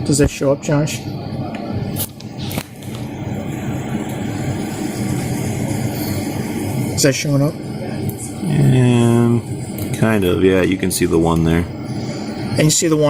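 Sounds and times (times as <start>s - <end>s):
steady background rumble: 0.0s - 13.0s.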